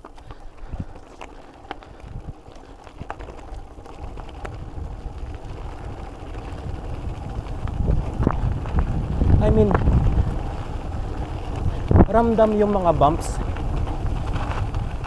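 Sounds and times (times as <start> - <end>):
bike clicks and rattles: 0.0 - 15.0
bike rumbling over gravel: 0.0 - 15.0
wind noise on microphone: 0.0 - 15.0.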